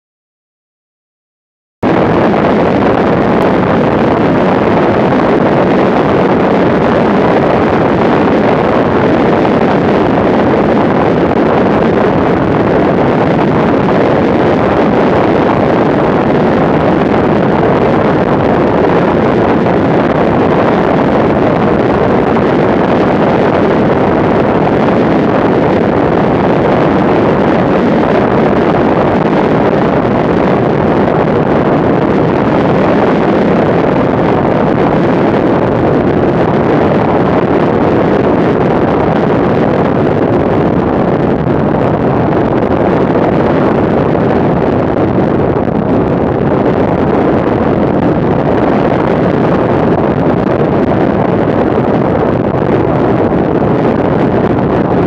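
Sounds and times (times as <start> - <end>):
plane engine drone: 1.8 - 55.0
wind rushing: 1.8 - 55.0.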